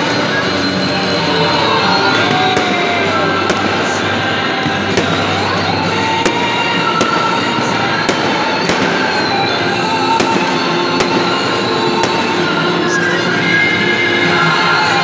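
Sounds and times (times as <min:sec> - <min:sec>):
fireworks cracking: 0:00.0 - 0:15.0
loud din with music: 0:00.0 - 0:15.0.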